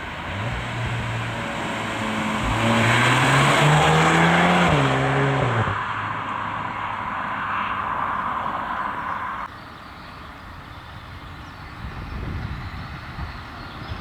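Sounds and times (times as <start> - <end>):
low car rumble: 0.0 - 14.0
road and wind rushing hiss: 0.0 - 14.0.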